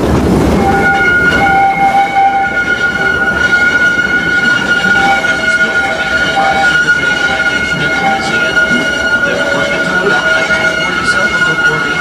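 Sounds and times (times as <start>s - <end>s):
steam train running: 0.0s - 12.0s
steady high-pitched tone: 0.4s - 12.0s.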